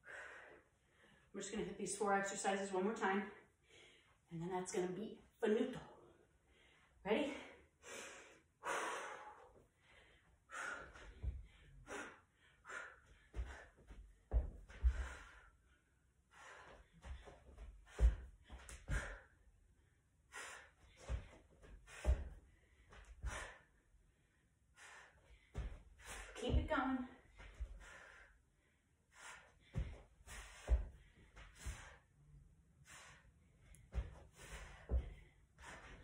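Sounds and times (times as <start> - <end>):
woman breathing hard and gasping: 0.0 - 1.3, 6.2 - 19.5, 20.2 - 26.4, 27.2 - 36.0.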